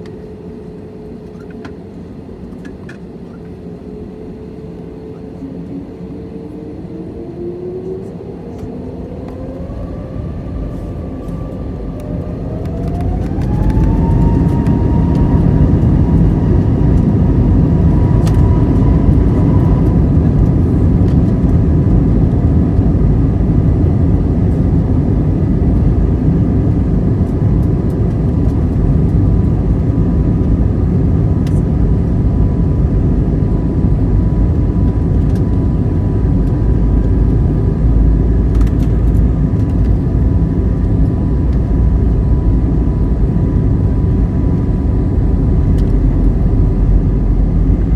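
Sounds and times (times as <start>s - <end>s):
jet engines spooling up: 3.5s - 47.9s.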